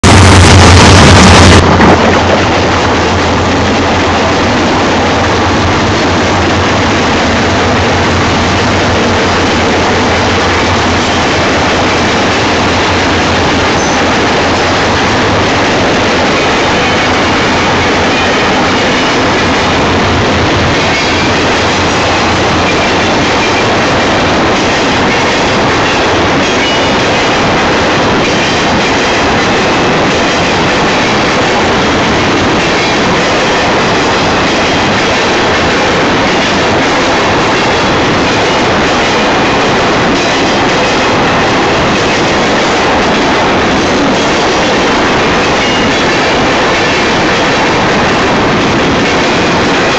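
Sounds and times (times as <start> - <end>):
diesel locomotives passing: 0.0 - 49.9
train wheels on rail: 0.0 - 49.9.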